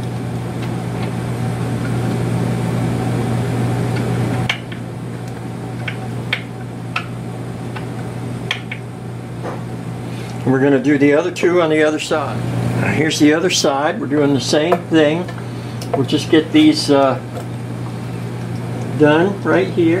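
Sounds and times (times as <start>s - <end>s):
low fan-like hum: 0.0s - 20.0s.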